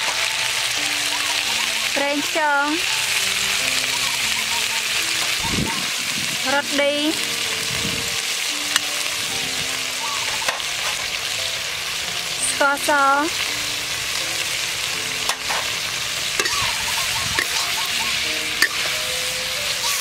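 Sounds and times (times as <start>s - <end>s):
meat sizzling in a wok: 0.0s - 20.0s.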